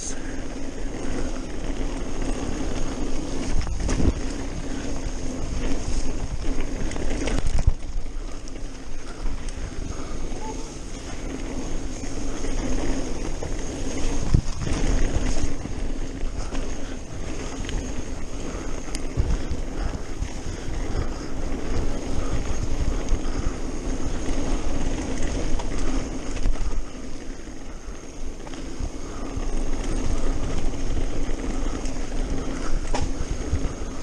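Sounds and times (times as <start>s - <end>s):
bike tyres and frame rattling: 0.0s - 34.0s.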